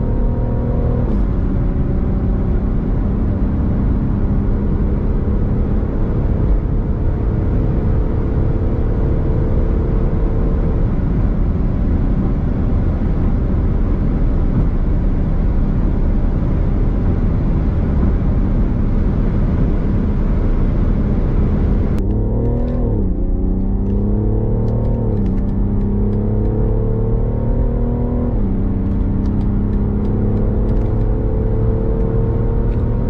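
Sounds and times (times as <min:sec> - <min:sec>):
car accelerating: 0:00.0 - 0:14.9, 0:15.6 - 0:33.0
wind and road noise: 0:00.0 - 0:33.0.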